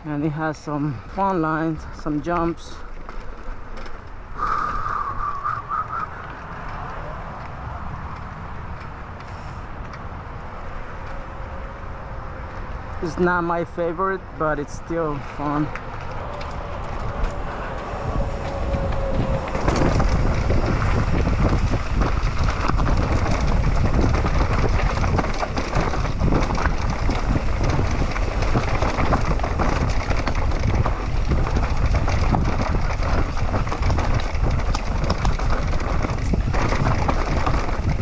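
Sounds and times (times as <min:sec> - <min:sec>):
bike rattling: 0:00.0 - 0:38.0
bike tyres rolling on dirt: 0:00.0 - 0:38.0
wind buffeting microphone: 0:00.0 - 0:38.0.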